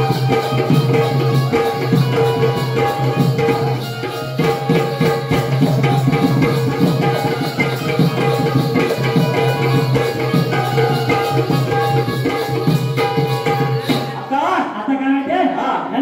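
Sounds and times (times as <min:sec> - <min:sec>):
hand drum beats: 0:00.0 - 0:14.3
jingling percussion: 0:00.0 - 0:14.5.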